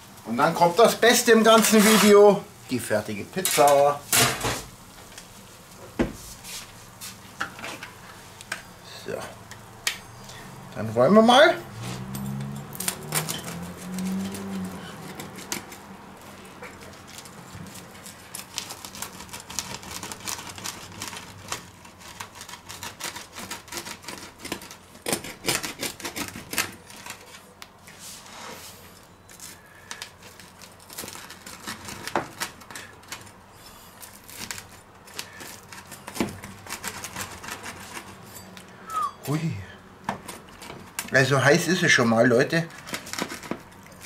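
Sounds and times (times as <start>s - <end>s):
pizza cutter crunching through crust: 0.4s - 4.7s, 11.3s - 38.5s, 40.1s - 44.0s.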